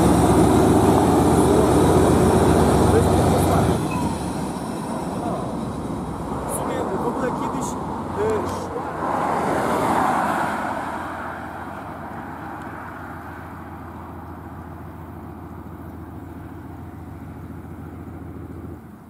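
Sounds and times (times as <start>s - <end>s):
diesel locomotive engine hum: 0.0s - 19.0s
passing car road noise: 0.0s - 19.0s.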